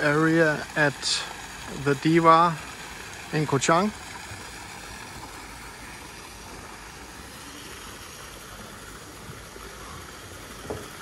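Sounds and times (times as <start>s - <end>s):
fountain water splashing into pool: 0.0s - 11.0s.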